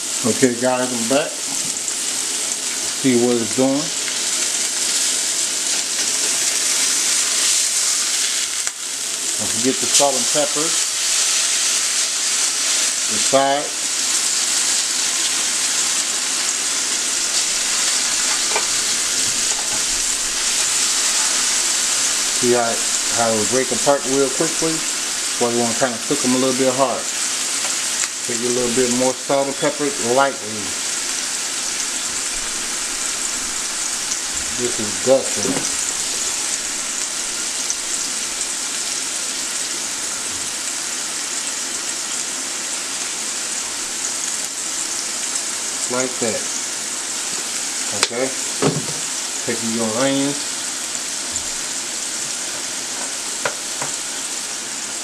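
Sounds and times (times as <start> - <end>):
steaks sizzling in frying pan: 0.0 - 55.0.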